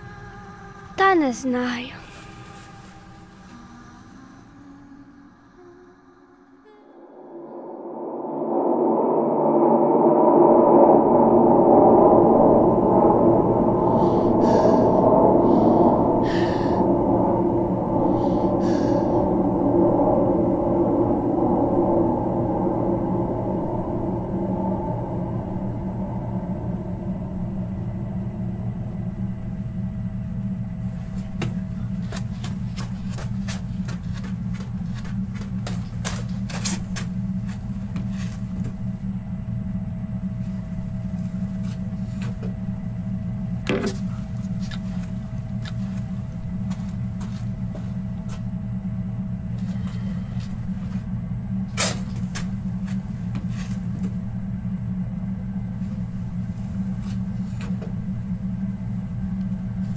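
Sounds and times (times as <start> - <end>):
low rumbling hum: 0.0 - 59.9.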